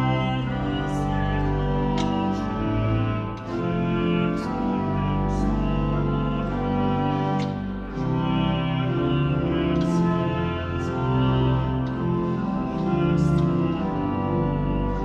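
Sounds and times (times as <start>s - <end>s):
pipe organ playing a hymn: 0.0s - 15.0s.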